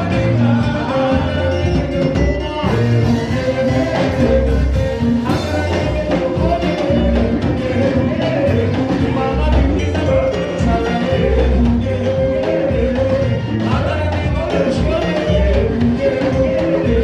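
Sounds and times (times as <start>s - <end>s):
drums: 0.0s - 17.0s
live band playing upbeat song: 0.0s - 17.0s
pulsing bass notes: 0.0s - 17.0s.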